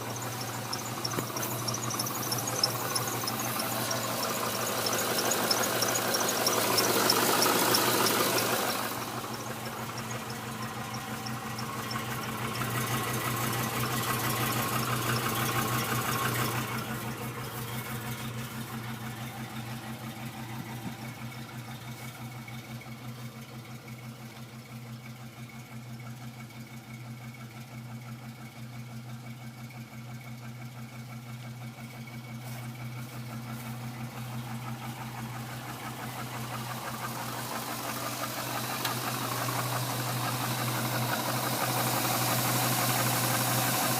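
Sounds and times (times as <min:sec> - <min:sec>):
engine idling with knock: 0:00.0 - 0:43.9.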